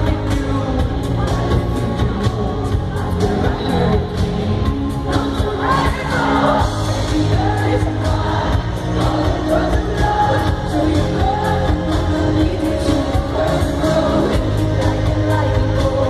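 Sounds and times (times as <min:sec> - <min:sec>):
crowd singing along: 0:00.0 - 0:16.0
pop song over pa: 0:00.0 - 0:16.0
woman singing: 0:00.0 - 0:16.0.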